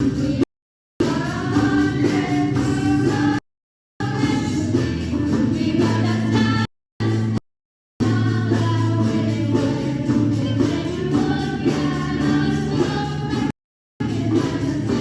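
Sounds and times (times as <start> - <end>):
choir-like song with beat: 0.0 - 3.4, 4.0 - 7.4, 8.0 - 15.0.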